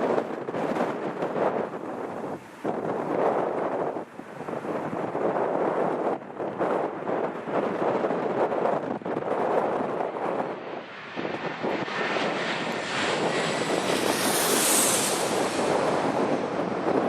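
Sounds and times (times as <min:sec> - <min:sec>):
jet airliner passing overhead: 0:00.0 - 0:17.0
wind buffeting microphone: 0:00.0 - 0:17.0.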